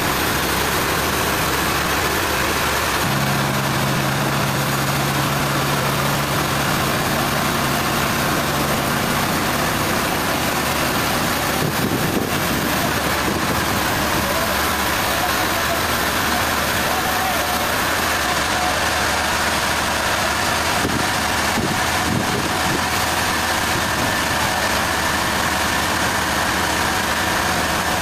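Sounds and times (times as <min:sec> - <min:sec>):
sawmill engine running: 0:00.0 - 0:28.0.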